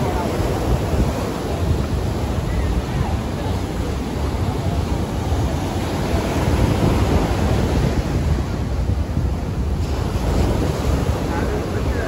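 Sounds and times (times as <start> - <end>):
ocean waves breaking on beach: 0.0 - 12.0
wind buffeting microphone: 0.0 - 12.0.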